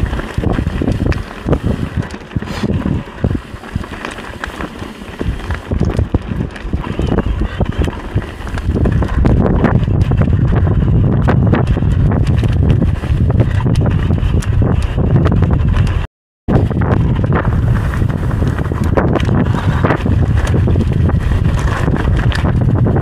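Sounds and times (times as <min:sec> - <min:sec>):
mountain bike rattling: 0:00.0 - 0:23.0
wind buffeting microphone: 0:00.0 - 0:23.0.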